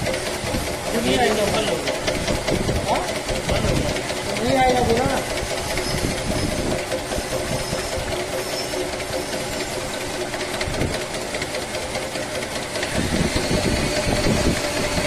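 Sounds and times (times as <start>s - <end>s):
pump motor humming: 0.0s - 15.0s.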